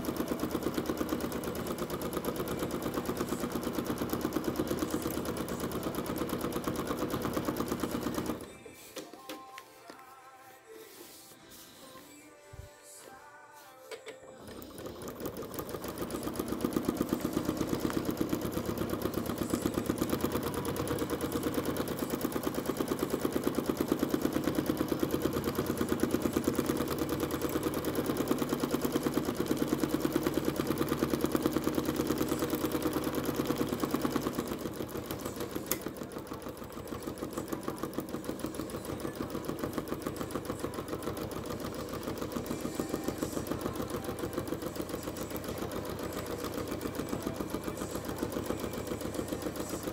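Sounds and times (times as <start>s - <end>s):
sewing machine running fast: 0.0s - 8.5s, 14.4s - 49.9s.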